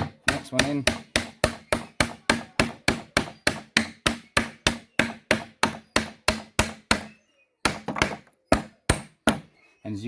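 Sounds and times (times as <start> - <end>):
hammer striking wooden wedge: 0.0 - 9.5.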